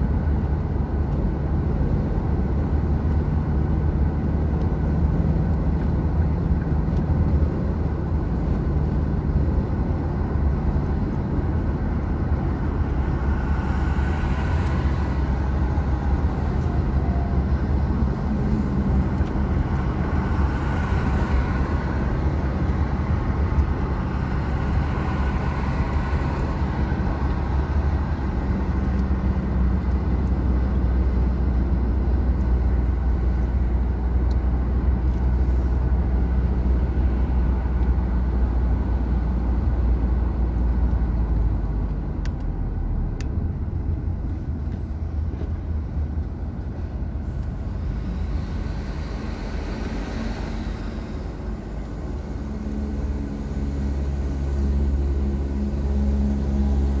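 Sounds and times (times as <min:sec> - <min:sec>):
car interior road rumble: 0:00.0 - 0:57.0
passing traffic: 0:00.0 - 0:57.0.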